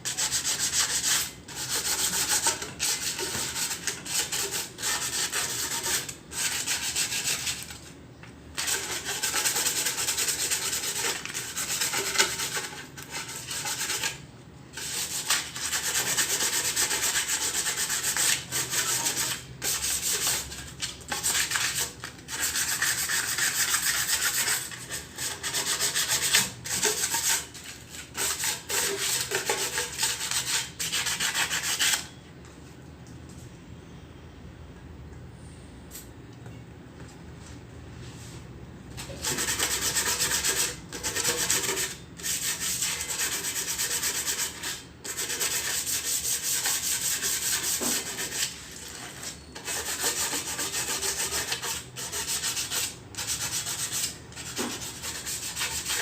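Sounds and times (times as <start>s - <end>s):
sandpaper rasping on metal: 0.0s - 7.7s, 8.6s - 14.2s, 14.8s - 20.4s, 21.1s - 32.0s, 39.0s - 56.0s.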